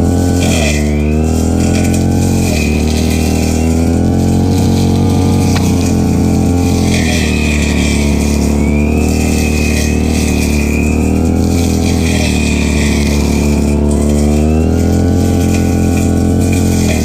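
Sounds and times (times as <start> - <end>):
brush cutter engine cutting grass: 0.0 - 17.0.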